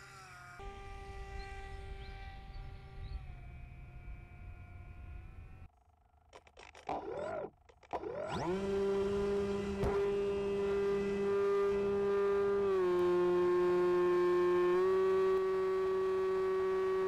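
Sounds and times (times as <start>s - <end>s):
electric model plane motor whine: 0.0s - 5.7s, 7.0s - 17.0s.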